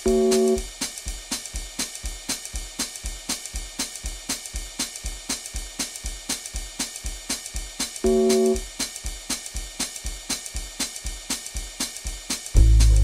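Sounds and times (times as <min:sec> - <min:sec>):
hi-hat and cymbal ticks: 0:00.0 - 0:13.0
kick drum thumps: 0:00.0 - 0:13.0.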